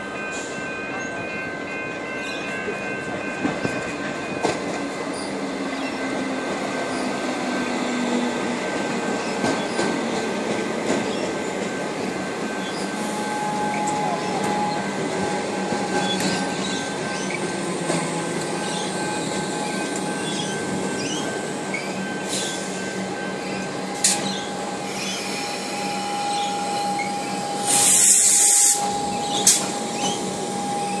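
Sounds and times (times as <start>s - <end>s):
train rumble: 0.0s - 31.0s
train wheels squealing: 5.0s - 31.0s.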